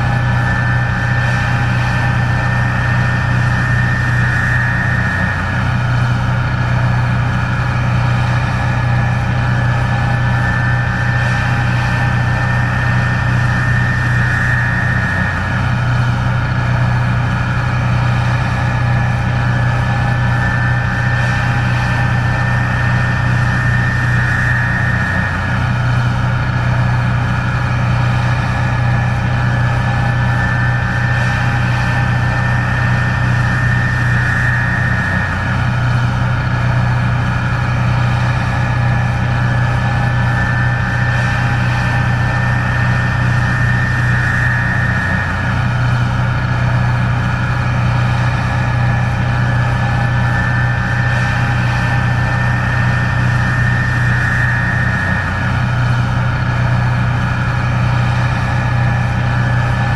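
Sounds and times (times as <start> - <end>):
combine harvester engine drone: 0.0 - 59.9
machinery high whine: 0.0 - 59.9.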